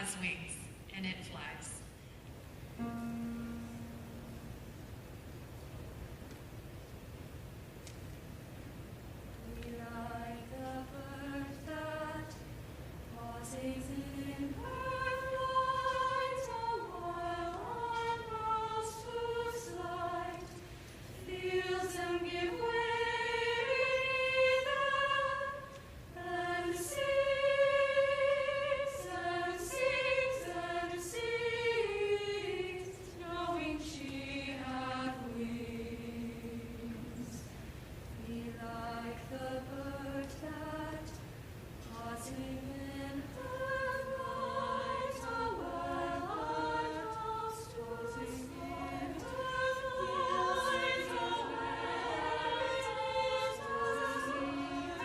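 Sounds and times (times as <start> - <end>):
choir singing in parts: 9.4 - 55.0.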